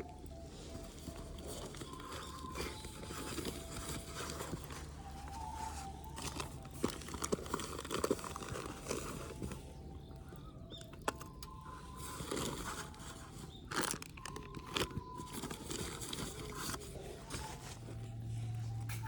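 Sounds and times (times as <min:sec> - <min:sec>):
clicks and knocks of handling: 0:00.0 - 0:19.0
rustling: 0:00.0 - 0:19.0.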